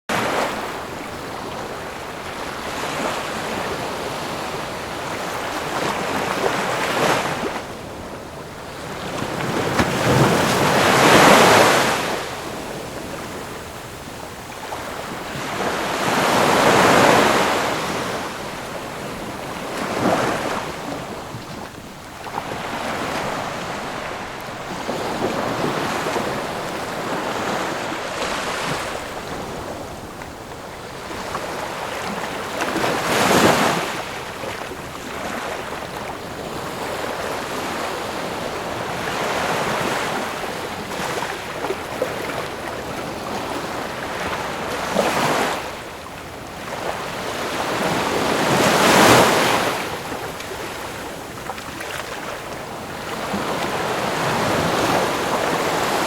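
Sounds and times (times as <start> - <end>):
ocean waves breaking on shore: 0.1 - 56.0.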